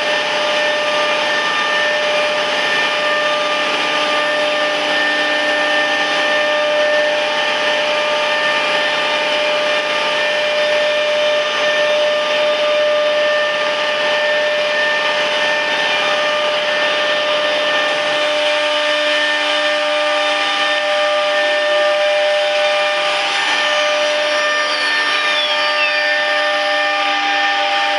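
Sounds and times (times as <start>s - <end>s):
falling whine: 0.0s - 27.9s
router spindle high whine: 0.0s - 27.9s.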